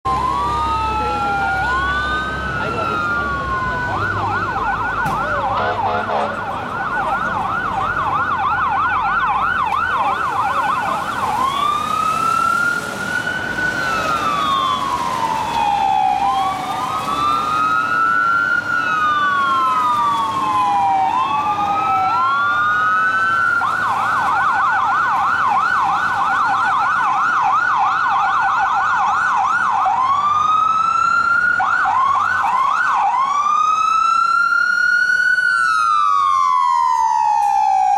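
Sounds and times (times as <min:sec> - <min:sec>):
fire engine siren yelp and wail: 0:00.0 - 0:37.9.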